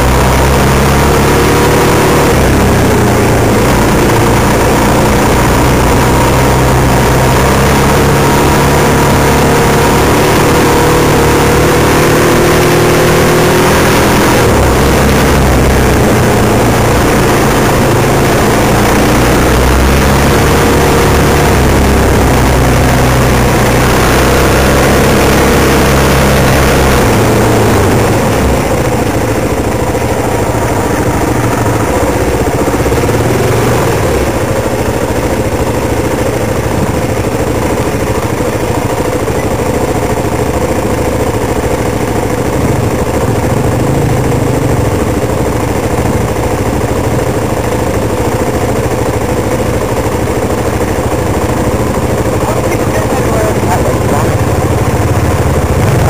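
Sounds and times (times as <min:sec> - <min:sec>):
off-road vehicle engine: 0:00.0 - 0:56.0.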